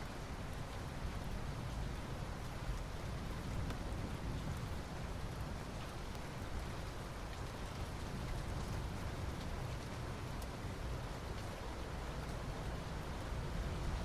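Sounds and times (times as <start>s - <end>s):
rain on asphalt: 0.0s - 14.0s.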